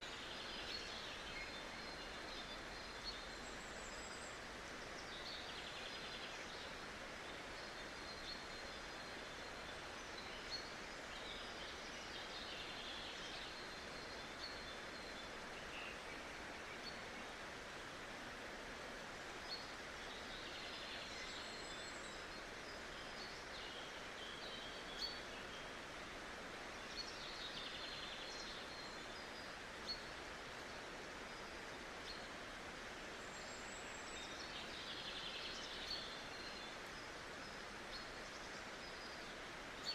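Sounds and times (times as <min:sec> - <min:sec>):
small birds chirping: 0:00.0 - 0:39.9
stream rushing: 0:00.0 - 0:39.9.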